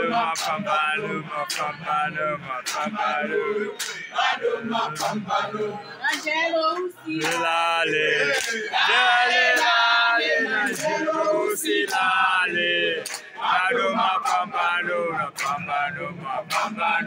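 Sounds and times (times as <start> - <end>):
men singing and chanting: 0.0 - 17.0
handclaps: 0.1 - 5.5, 6.1 - 17.0.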